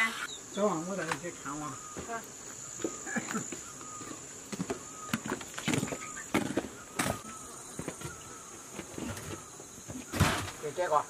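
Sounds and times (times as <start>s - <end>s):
high-pitched insect trilling: 0.0s - 11.0s
footsteps on hard ground: 1.0s - 10.1s.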